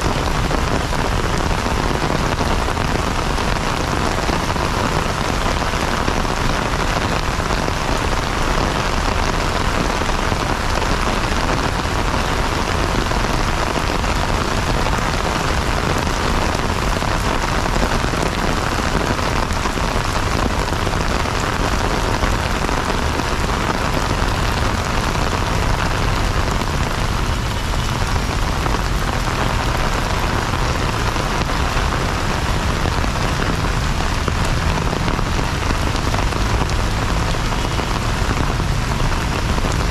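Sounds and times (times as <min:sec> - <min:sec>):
heavy rain on wet paving: 0:00.0 - 0:39.9.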